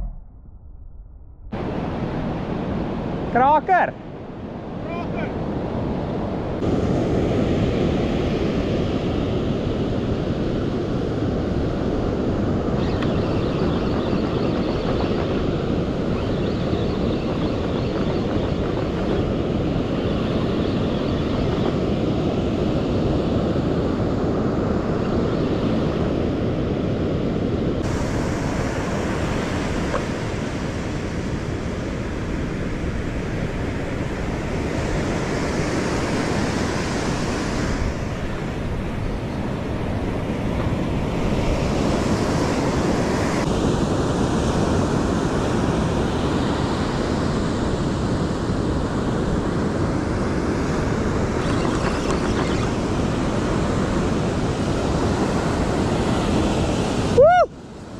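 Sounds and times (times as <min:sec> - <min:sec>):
surf breaking on a beach: 0:01.6 - 0:57.9
wind buffeting microphone: 0:04.0 - 0:57.2.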